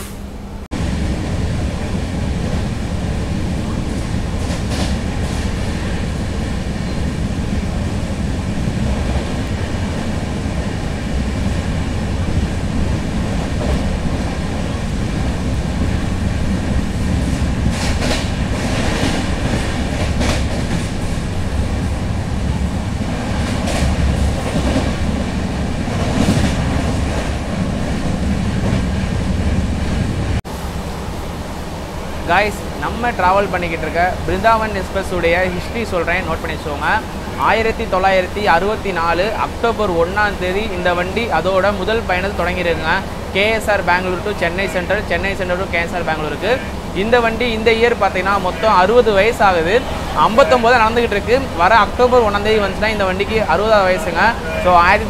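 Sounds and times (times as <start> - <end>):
train wheels rumbling and clacking: 0.0 - 55.0.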